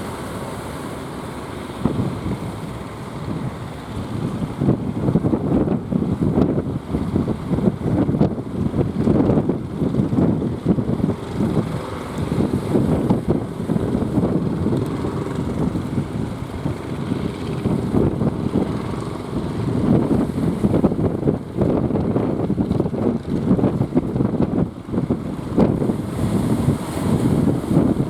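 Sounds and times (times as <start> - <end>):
wind buffeting microphone: 1.8 - 28.0.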